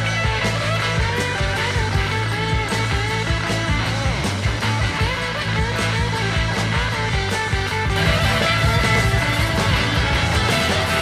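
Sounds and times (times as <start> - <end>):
guitar pop-rock music: 0.0 - 11.0.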